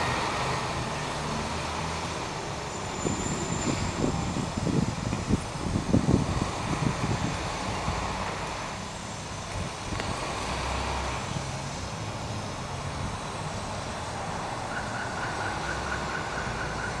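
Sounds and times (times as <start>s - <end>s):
traffic: 0.0s - 17.0s
truck diesel engine pulling away: 0.0s - 17.0s.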